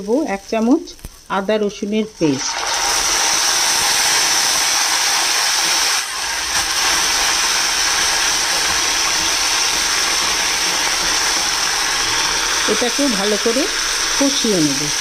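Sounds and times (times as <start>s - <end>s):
onions sizzling in hot oil: 2.2s - 15.0s.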